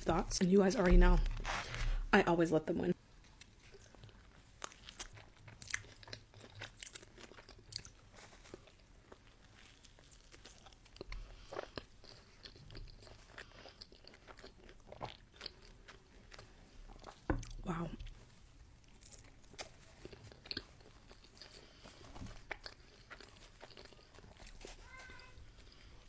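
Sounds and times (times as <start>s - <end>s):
chewing: 3.2s - 26.0s
food crunching: 3.2s - 26.0s.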